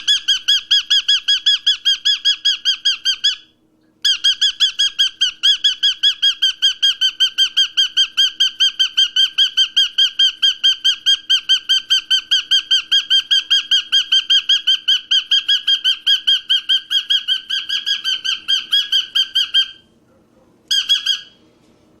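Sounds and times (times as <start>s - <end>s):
cockatiel chirping: 0.0s - 19.9s, 20.7s - 21.4s.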